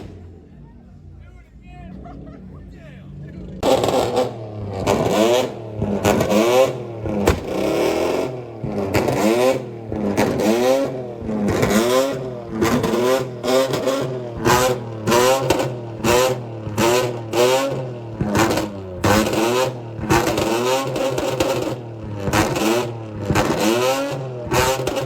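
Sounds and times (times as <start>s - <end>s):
car engine revving in blips: 0.0s - 0.7s, 1.9s - 25.0s.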